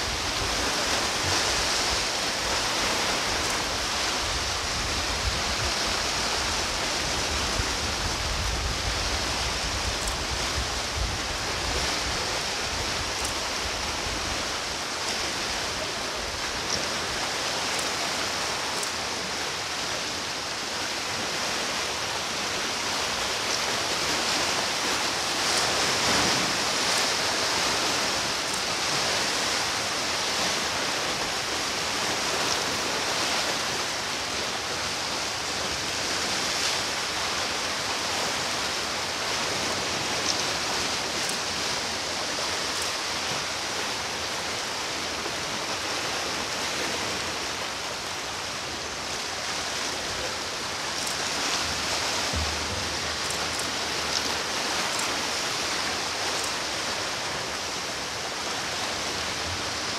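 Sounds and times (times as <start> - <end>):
sea waves washing against rocks: 0.0 - 59.9.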